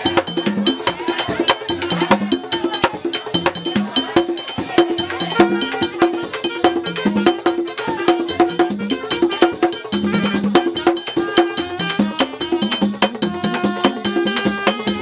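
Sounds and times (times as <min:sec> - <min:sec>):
music with clicking percussion: 0:00.0 - 0:15.0.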